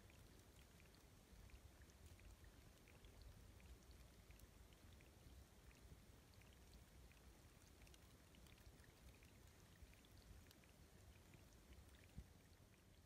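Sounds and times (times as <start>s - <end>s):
low steady water rumble: 0.0s - 13.0s
trickling water plinks: 0.0s - 13.0s.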